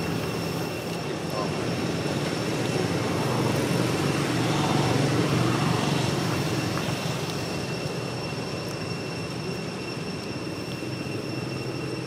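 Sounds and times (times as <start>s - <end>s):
passing vehicle engine rumble: 0.0s - 10.0s.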